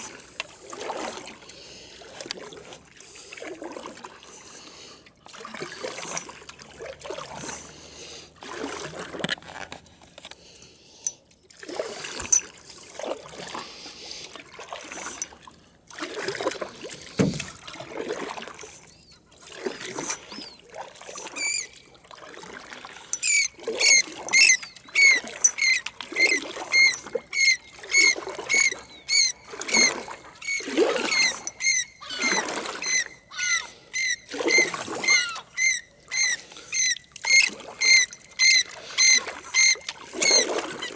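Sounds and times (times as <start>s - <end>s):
oars splashing through water: 0.0s - 40.9s.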